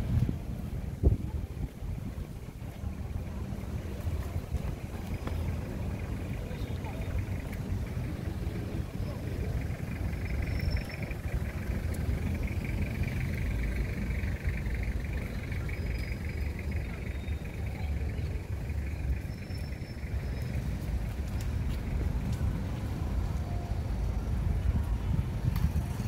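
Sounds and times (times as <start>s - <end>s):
low street rumble: 0.0s - 26.0s.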